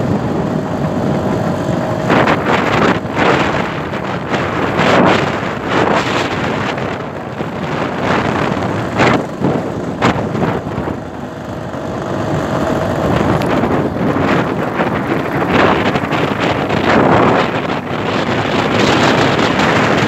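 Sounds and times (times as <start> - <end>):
two-stroke scooter engine: 0.0 - 20.0
wind buffeting microphone: 0.0 - 20.0.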